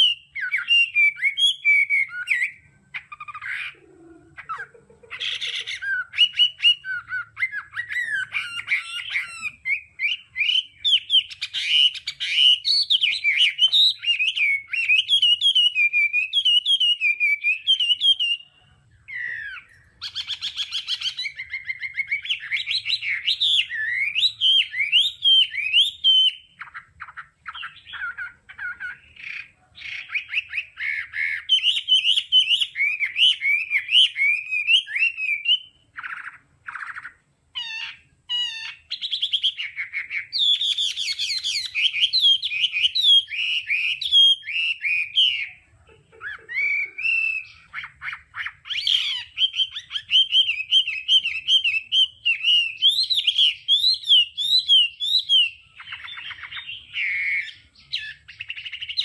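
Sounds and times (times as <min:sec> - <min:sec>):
bird singing whistled notes: 0:00.0 - 0:45.6, 0:46.3 - 0:59.0
harsh rasping bird call: 0:00.0 - 0:59.0.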